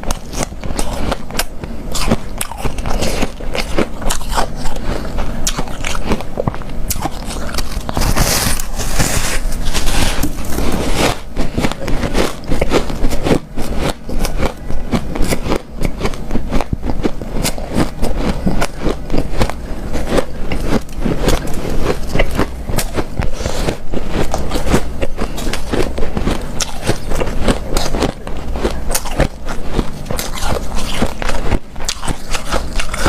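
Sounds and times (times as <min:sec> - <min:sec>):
chewing crunchy ice: 0:00.0 - 0:33.0.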